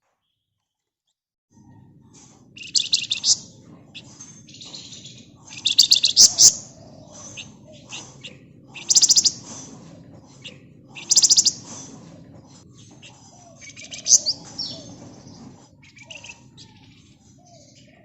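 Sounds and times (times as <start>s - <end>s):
bird chirps: 1.6s - 18.0s
bird trilling: 2.5s - 18.0s.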